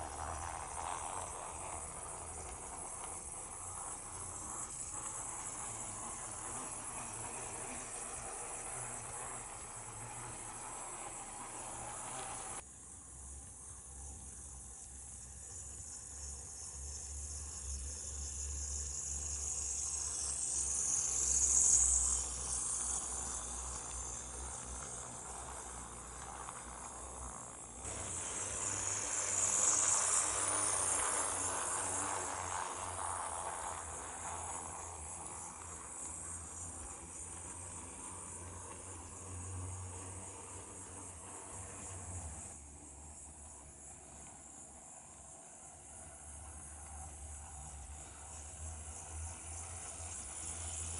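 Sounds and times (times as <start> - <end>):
toy train motor whining: 0.0 - 12.6, 14.2 - 50.9.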